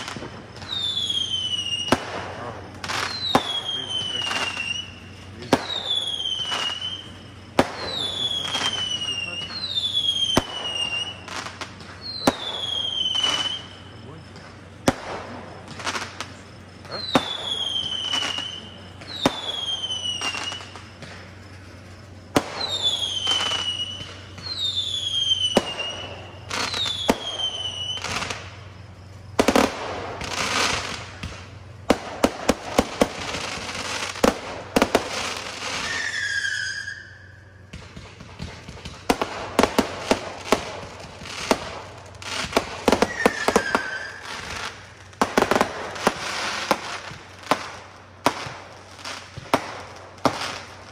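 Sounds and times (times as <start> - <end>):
firework bangs: 0.0 - 50.9
firework crackling: 0.0 - 50.9
firework whistles: 0.0 - 50.9.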